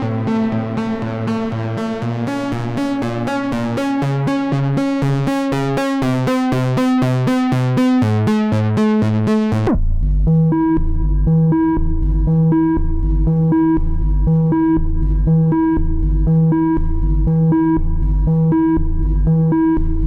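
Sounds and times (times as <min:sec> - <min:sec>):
synthesizer pattern with bass line: 0:00.0 - 0:20.0.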